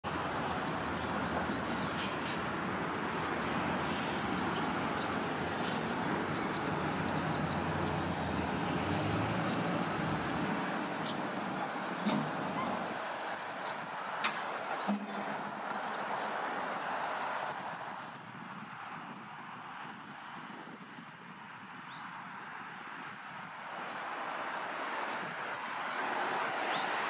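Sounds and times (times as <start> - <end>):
small songbirds chirping: 0.1 - 27.0.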